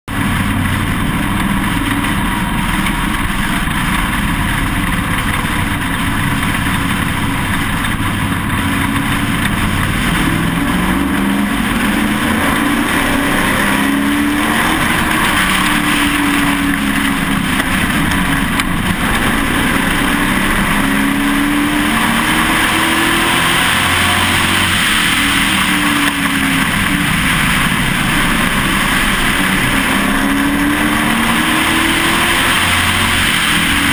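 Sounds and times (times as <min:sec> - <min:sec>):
race truck engine running hard: 0:00.1 - 0:33.9
wind and road noise: 0:00.1 - 0:33.9.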